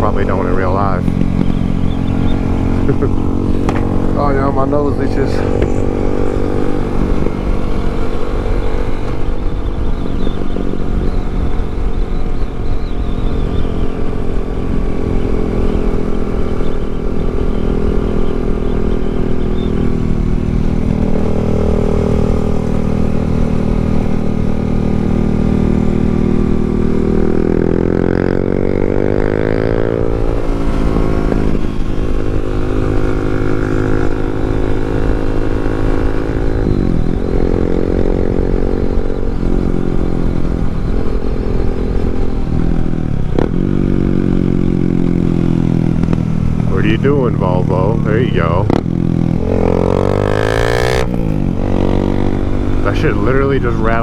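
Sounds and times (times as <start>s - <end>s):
low wind rumble: 0.0s - 54.0s
motorcycle engine running: 0.0s - 54.0s.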